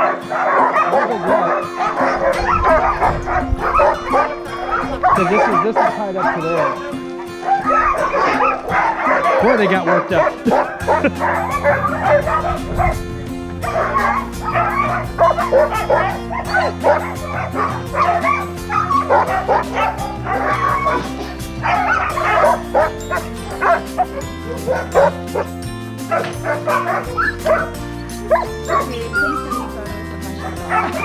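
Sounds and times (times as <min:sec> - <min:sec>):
background music: 0:00.0 - 0:31.0
dogs barking and yipping: 0:00.0 - 0:31.0.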